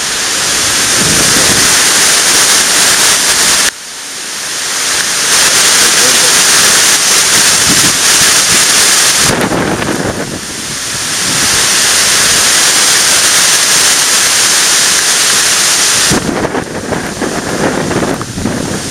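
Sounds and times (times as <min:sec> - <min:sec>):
wind buffeting microphone: 0:00.0 - 0:03.7, 0:04.9 - 0:14.6, 0:15.8 - 0:18.9
driving rain: 0:00.0 - 0:18.9
strong gusting wind: 0:00.0 - 0:18.9.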